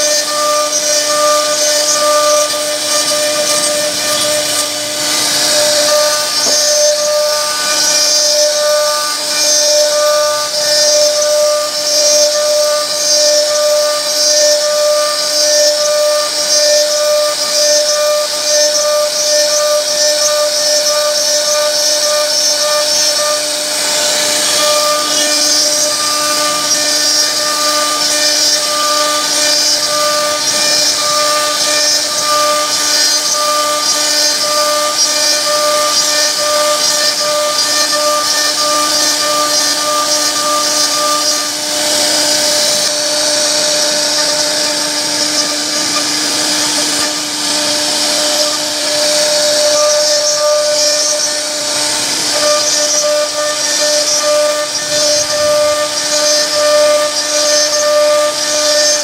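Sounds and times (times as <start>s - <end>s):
bit cutting through wood: 0.0s - 59.0s
router spindle whining: 0.0s - 59.0s.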